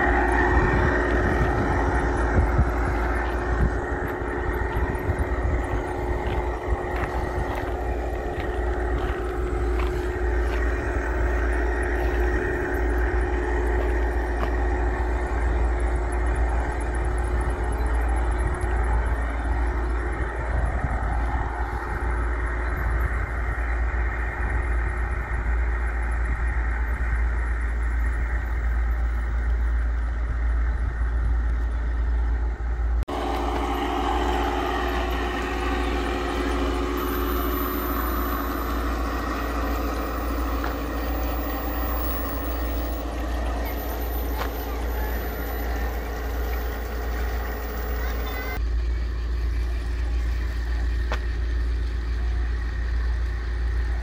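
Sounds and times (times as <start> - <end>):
steady tones: 0.0 - 48.7
vehicle engine rumble: 0.0 - 54.0.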